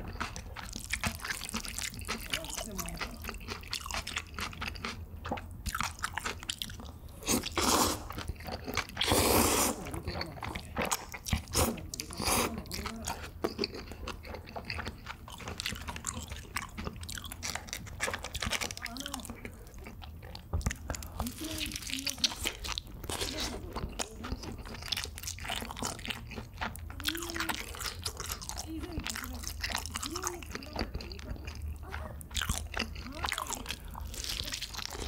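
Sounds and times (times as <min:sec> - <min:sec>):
crunching and chewing fried chicken: 0:00.0 - 0:35.0.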